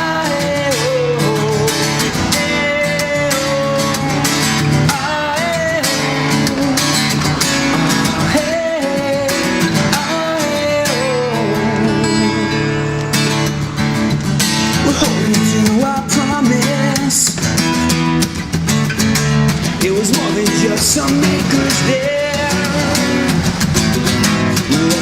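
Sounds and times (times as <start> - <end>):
acoustic guitars strumming: 0.0 - 25.0
sliding guitar melody: 0.0 - 25.0.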